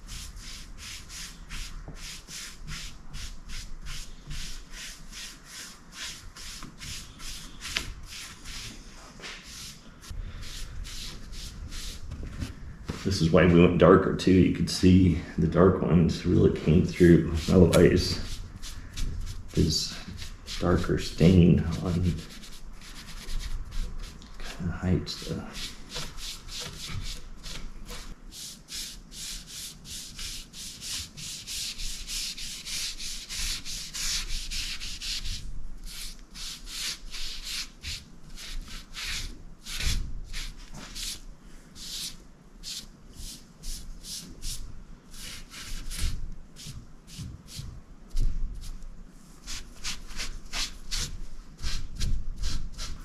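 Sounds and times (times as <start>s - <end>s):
paintbrush scrubbing on wood: 0.0s - 12.1s, 16.6s - 48.8s, 49.4s - 53.0s.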